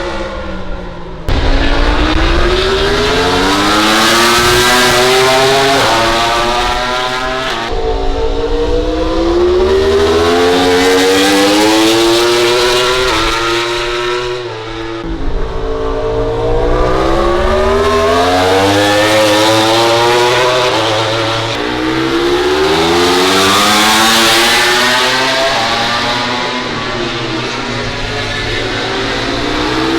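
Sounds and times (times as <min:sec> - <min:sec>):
racing motorcycle engines revving: 0:00.0 - 0:29.9.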